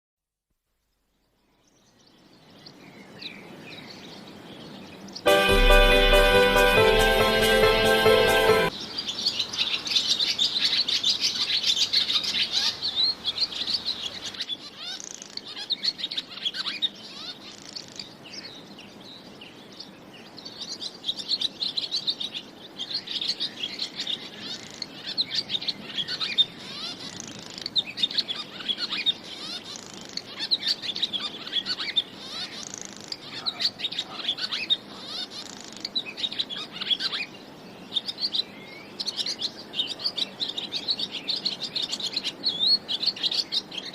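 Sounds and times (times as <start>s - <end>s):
birds chirping and twittering: 0.8s - 5.3s, 8.7s - 43.9s.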